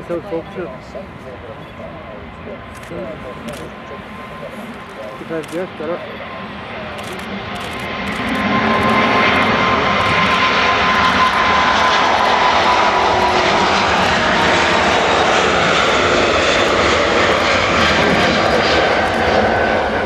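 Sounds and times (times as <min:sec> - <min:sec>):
faint high jet whine: 0:00.0 - 0:20.0
jet engines roaring at take-off: 0:00.0 - 0:20.0.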